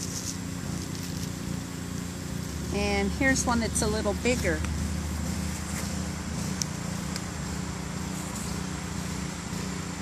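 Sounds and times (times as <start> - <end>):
pressure washer drone: 0.0 - 10.0.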